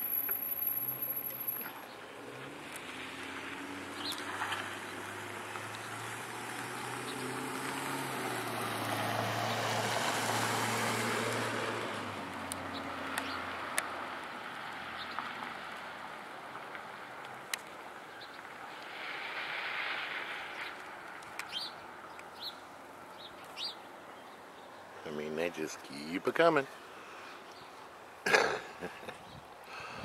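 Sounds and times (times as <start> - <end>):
vehicle passing with engine hum: 0.0 - 30.0.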